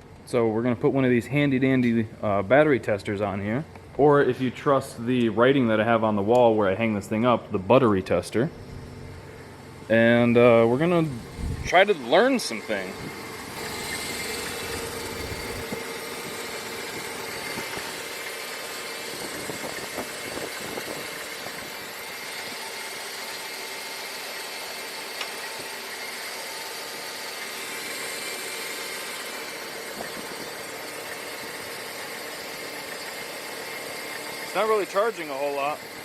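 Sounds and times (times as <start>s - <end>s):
truck engine idling: 3.8s - 36.0s.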